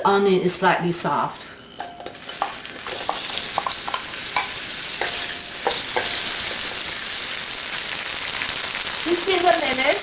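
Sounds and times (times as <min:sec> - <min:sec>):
onion sizzling in hot oil: 0:01.2 - 0:10.0.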